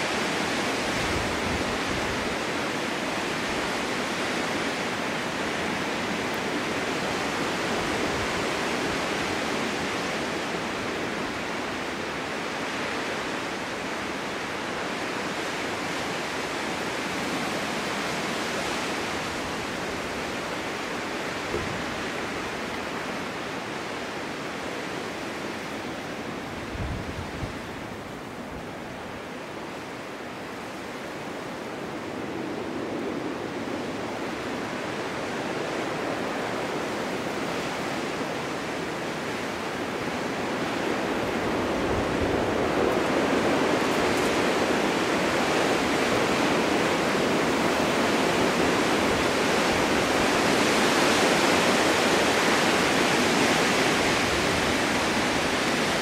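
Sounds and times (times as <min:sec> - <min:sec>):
wind buffet on microphone: 0:00.0 - 0:29.9, 0:31.0 - 0:56.0
snowstorm wind rushing: 0:00.0 - 0:56.0.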